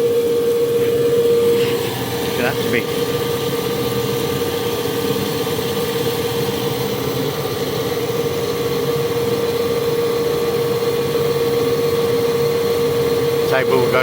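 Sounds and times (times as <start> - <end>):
electric drive whine: 0.0 - 14.0
mechanical hum: 0.0 - 14.0.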